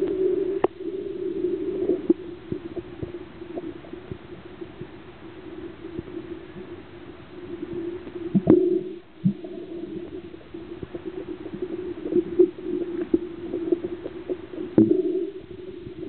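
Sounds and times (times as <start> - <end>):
low underwater rushes: 0.0 - 16.0
muffled underwater hum: 0.0 - 16.0.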